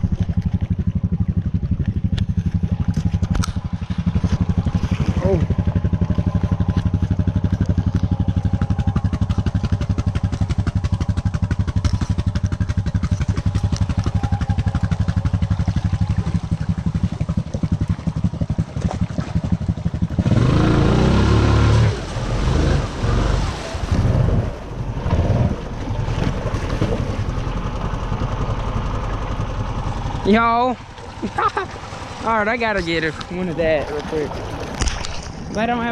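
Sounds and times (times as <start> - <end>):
atv engine idling and revving: 0.0 - 35.9.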